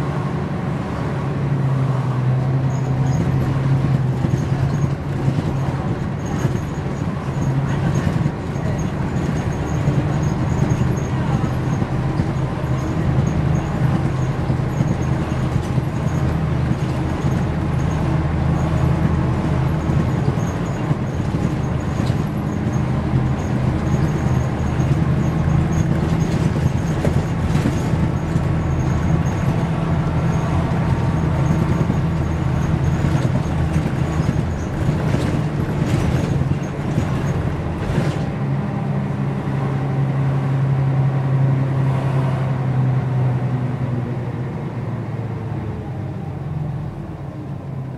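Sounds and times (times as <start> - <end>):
diesel bus engine idling: 0.0 - 41.8, 42.5 - 47.9.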